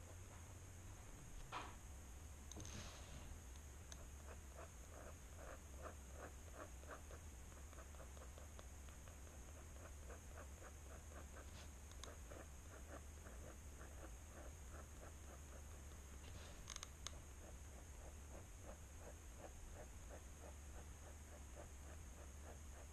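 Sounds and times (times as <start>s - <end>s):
pen nib scratching on paper: 3.8s - 22.9s.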